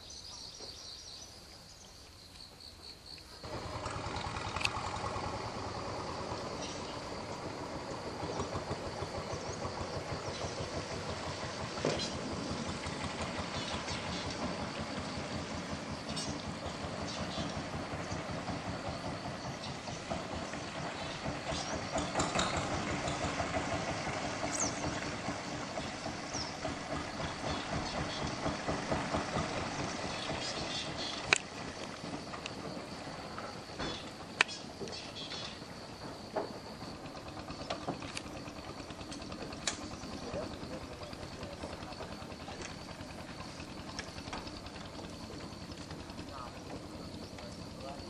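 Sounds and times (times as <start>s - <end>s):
boat engine pulsing: 3.4s - 48.0s.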